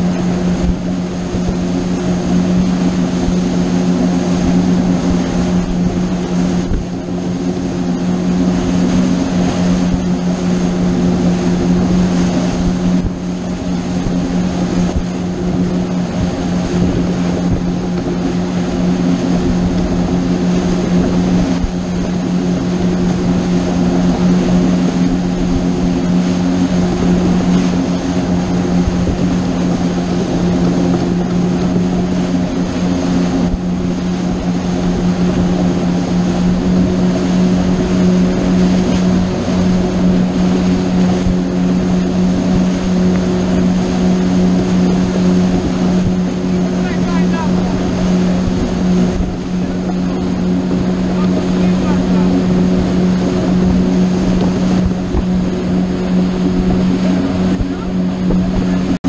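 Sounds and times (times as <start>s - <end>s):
boat engine drone: 0.0s - 59.0s.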